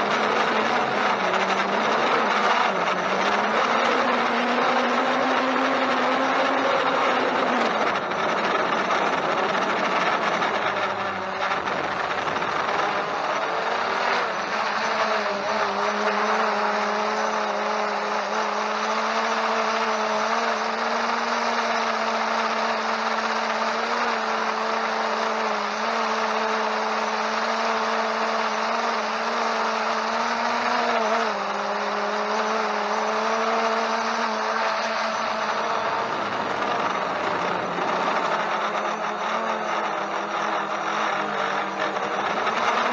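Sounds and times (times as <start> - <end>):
drone propellers whining: 0.0 - 42.9.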